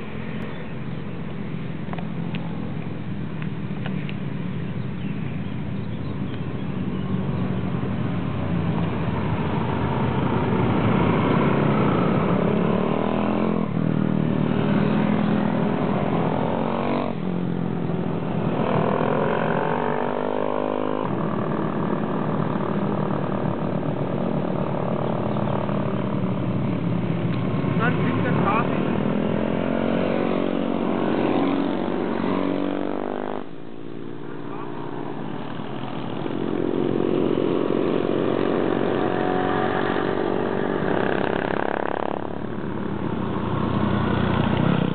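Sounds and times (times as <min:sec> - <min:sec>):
mini bike engines riding past: 0:07.0 - 0:44.9.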